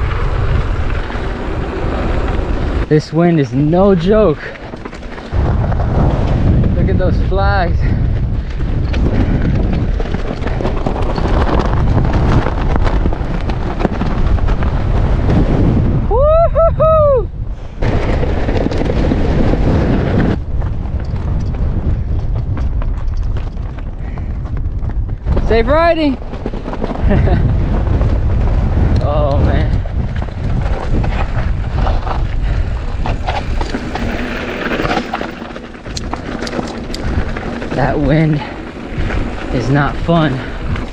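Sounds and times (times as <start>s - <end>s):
wind buffeting microphone: 0.0s - 40.9s
sharp clicks and rattles: 2.1s - 15.4s, 17.8s - 28.2s, 28.8s - 40.9s.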